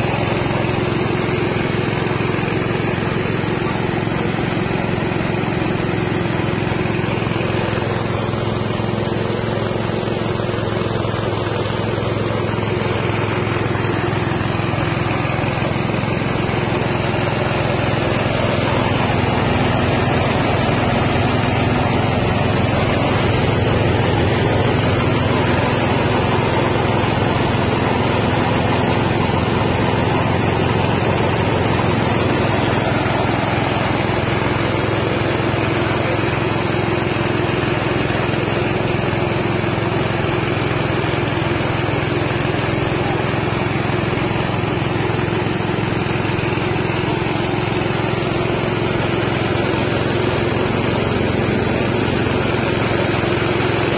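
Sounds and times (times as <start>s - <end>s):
rice milling machine running: 0.0s - 53.9s.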